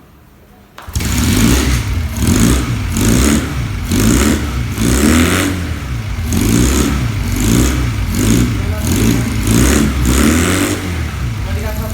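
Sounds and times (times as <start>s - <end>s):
motorcycle engine revving: 0.8s - 11.9s.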